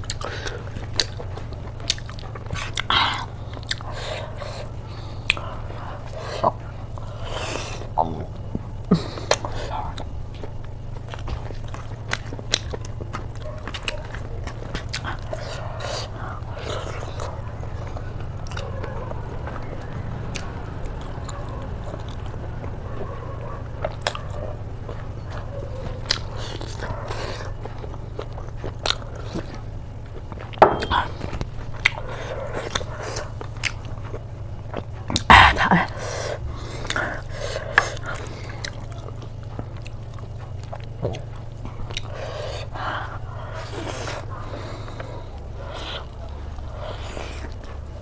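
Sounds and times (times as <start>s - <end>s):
person chewing: 0.0s - 48.0s
steady low hum: 0.0s - 48.0s.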